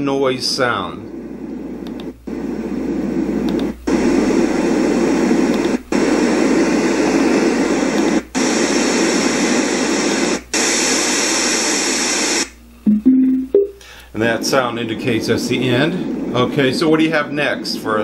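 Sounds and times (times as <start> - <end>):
white noise from speaker: 0.0 - 18.0.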